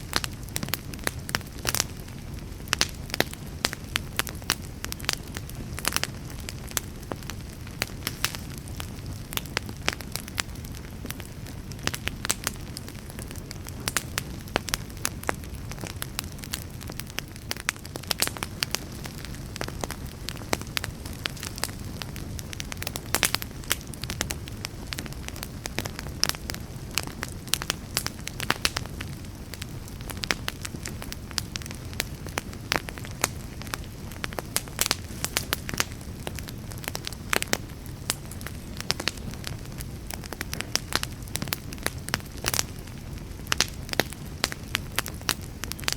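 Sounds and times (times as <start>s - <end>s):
low rumble of flames: 0.0s - 45.9s
wood fire crackling and popping: 0.0s - 45.9s.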